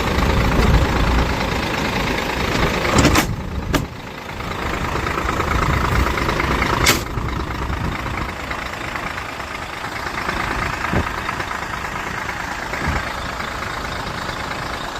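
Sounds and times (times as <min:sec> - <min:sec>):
diesel truck engine idling: 0:00.0 - 0:14.9.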